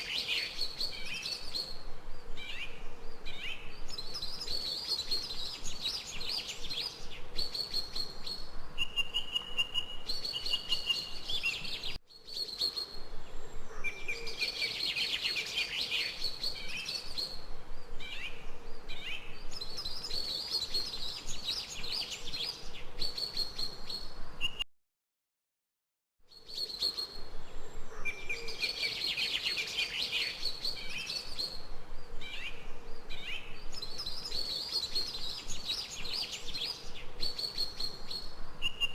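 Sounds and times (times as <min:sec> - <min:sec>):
faint background hiss: 0:00.0 - 0:24.6, 0:26.3 - 0:38.9
songbirds chirping: 0:00.0 - 0:24.6, 0:26.3 - 0:38.9.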